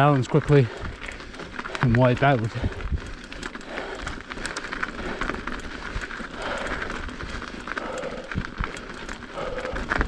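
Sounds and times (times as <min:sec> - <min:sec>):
bike clicking and rattling: 0:00.0 - 0:10.0
bike tyres on ice: 0:00.0 - 0:10.0.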